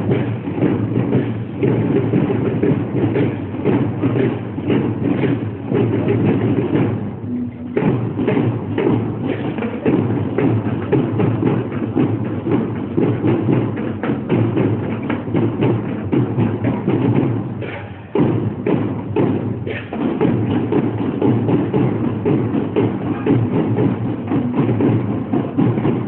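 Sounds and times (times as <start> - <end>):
drum corps percussion: 0.0 - 26.0.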